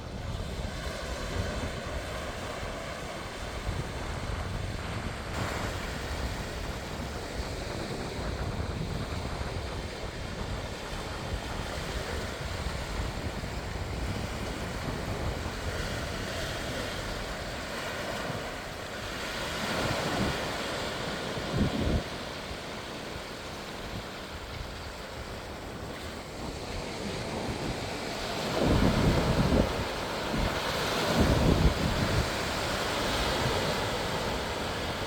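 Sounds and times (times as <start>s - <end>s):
sea waves washing onto beach: 0.0s - 35.0s
wind rumbling on microphone: 0.0s - 35.0s.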